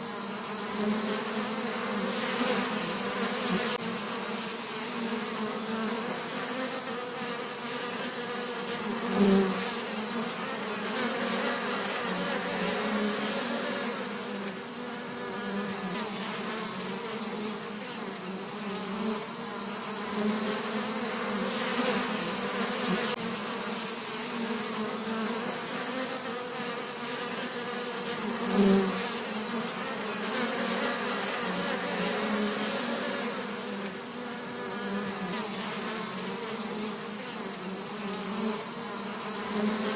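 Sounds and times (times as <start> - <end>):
bee buzzing: 0.0 - 39.9.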